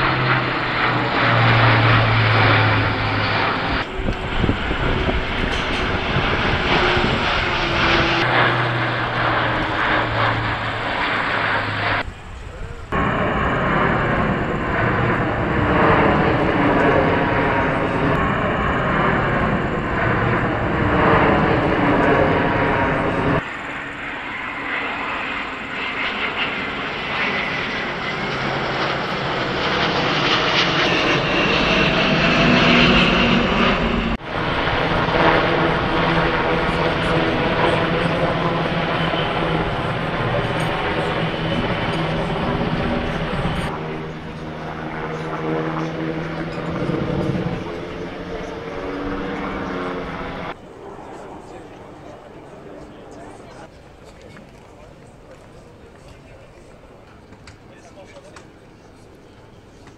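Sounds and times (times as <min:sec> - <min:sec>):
jet airliner flying past: 0:00.0 - 0:59.9
turboprop engines humming: 0:00.0 - 0:59.9.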